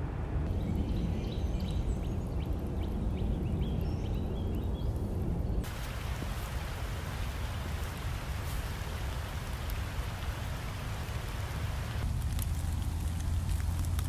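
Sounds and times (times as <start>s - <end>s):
wind rumble on microphone: 0.4s - 14.0s
rain hissing in woodland: 0.5s - 14.0s.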